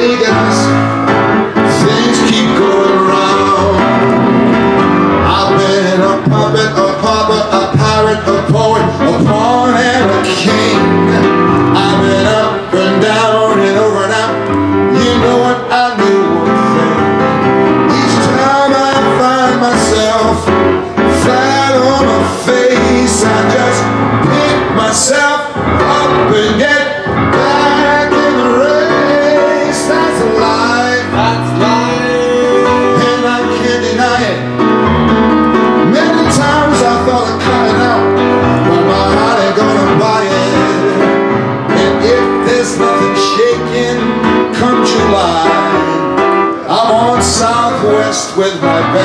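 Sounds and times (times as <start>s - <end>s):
man singing: 0.0s - 35.1s, 35.7s - 49.0s
live band music: 0.0s - 49.0s.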